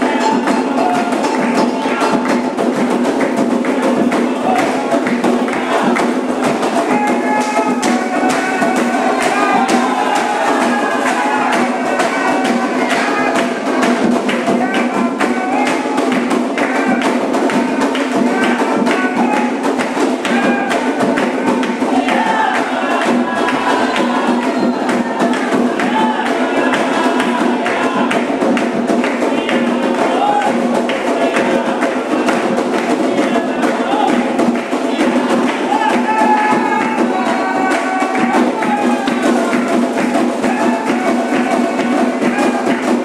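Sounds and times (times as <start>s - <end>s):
fast percussion: 0.0s - 43.0s
voices singing a chant: 0.0s - 43.0s.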